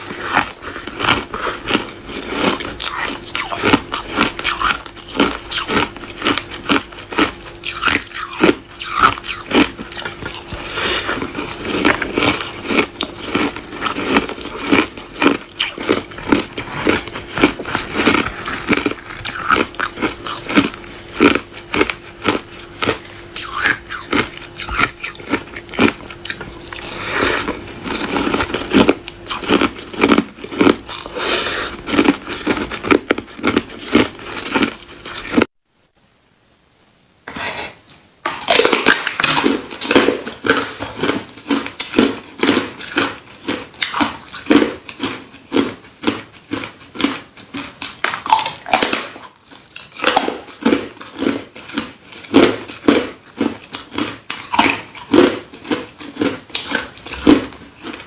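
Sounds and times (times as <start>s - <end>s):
person crunching ice: 0.0s - 35.5s, 38.4s - 58.0s.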